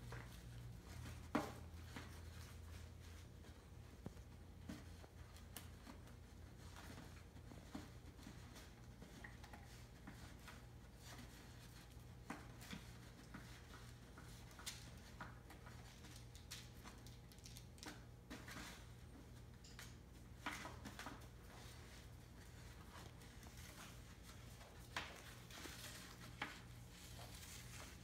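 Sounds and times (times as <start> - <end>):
puppies scuffling and clicking: 0.0 - 28.0.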